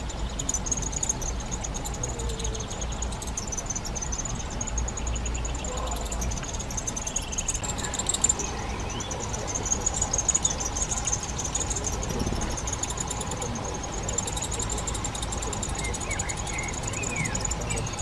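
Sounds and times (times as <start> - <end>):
low steady rumble: 0.0 - 18.0
nestlings begging high-pitched ticking: 0.0 - 18.0.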